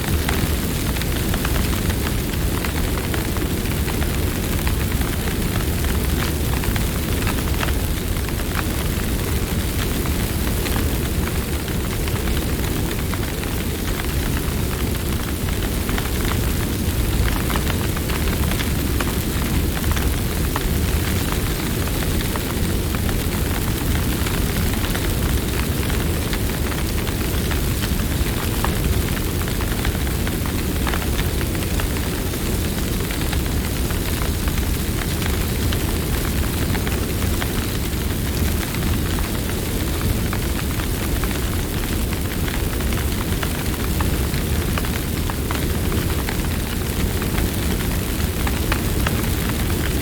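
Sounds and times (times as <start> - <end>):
campfire crackling: 0.0 - 50.0.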